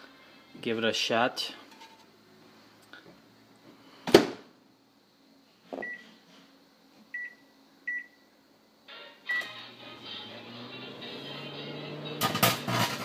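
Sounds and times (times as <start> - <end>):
microwave oven humming: 1.7 - 13.0.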